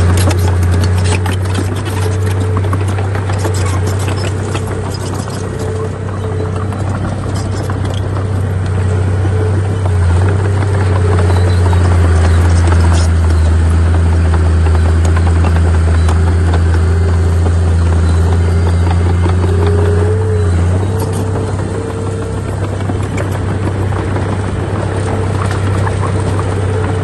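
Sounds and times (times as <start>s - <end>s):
diesel machine engine droning: 0.0s - 27.0s
rattling and clanking: 0.0s - 27.0s.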